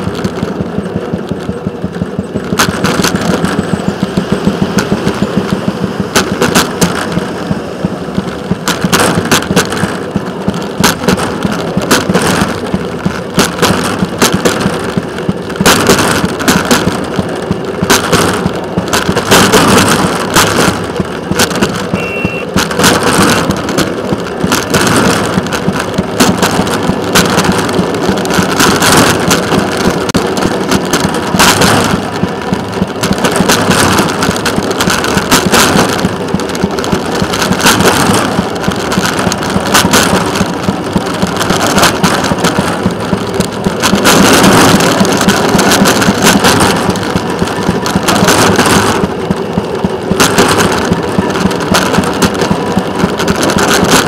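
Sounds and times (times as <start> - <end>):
engine hum: 0.0 - 54.0
wheels rolling on rails: 0.0 - 54.0
wind buffeting microphone: 0.0 - 54.0.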